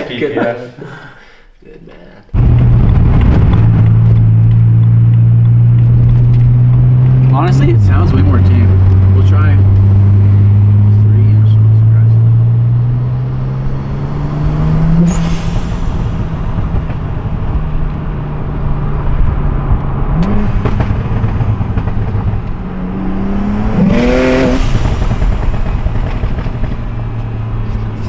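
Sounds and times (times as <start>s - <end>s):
car engine drone with revving: 2.3s - 28.0s.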